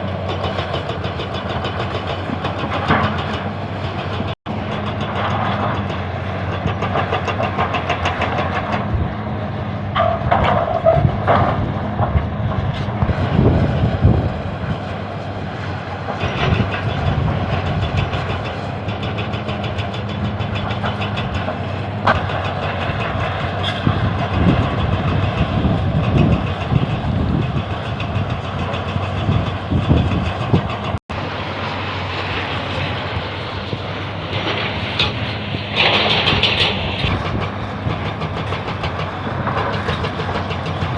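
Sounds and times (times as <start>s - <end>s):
metallic clatter and clanking: 0.0s - 9.1s, 9.9s - 14.9s, 15.5s - 40.9s
excavator diesel engine running: 0.0s - 40.9s.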